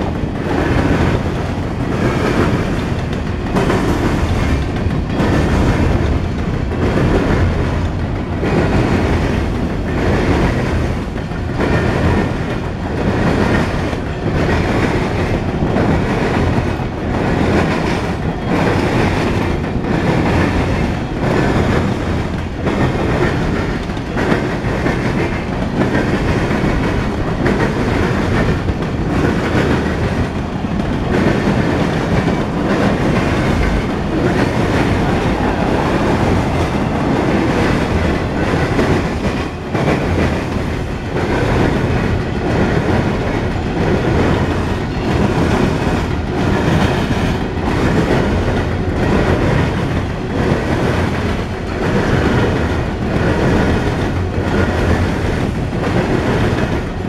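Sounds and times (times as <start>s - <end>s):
steel wheels rumbling on rail: 0.0s - 57.0s
wheels clicking over rail joints: 0.0s - 57.0s.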